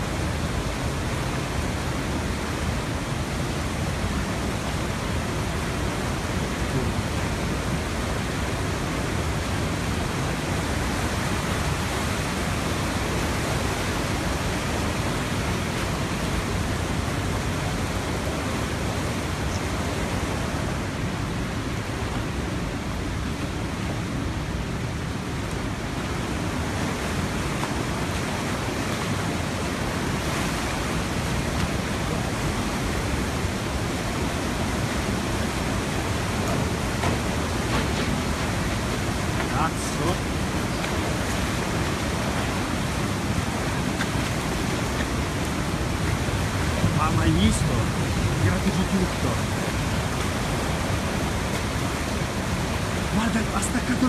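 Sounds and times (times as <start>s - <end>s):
floodwater rushing and churning: 0.0s - 54.0s.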